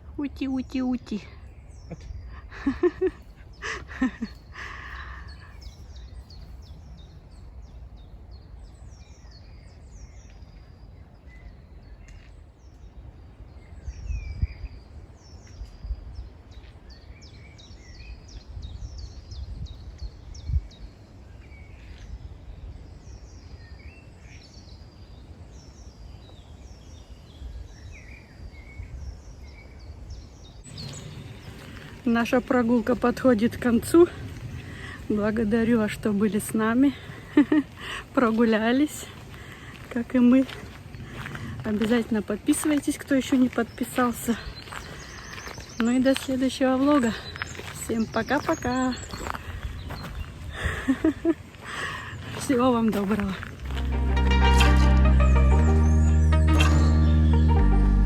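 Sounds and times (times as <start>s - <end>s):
songbirds chirping and singing: 0.2s - 22.0s, 23.0s - 58.0s.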